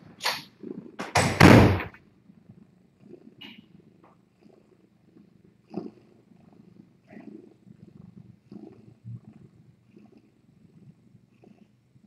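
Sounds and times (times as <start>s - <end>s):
cat purring: 0.0s - 1.2s, 1.9s - 12.0s.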